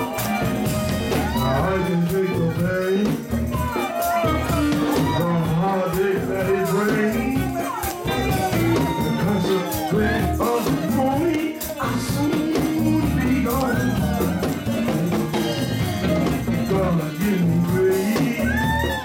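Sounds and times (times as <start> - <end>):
gospel band with percussion: 0.0 - 19.0
voices singing: 0.0 - 19.0.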